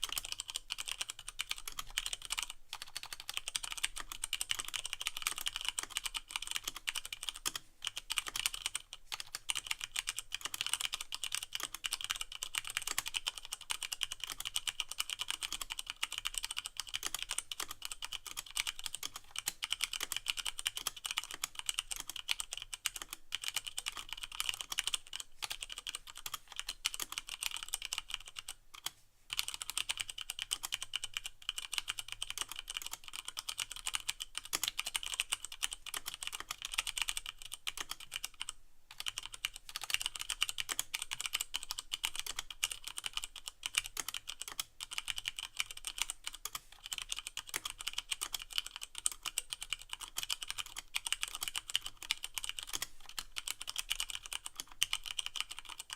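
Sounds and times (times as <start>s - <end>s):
fast mechanical keyboard typing: 0.0s - 55.9s.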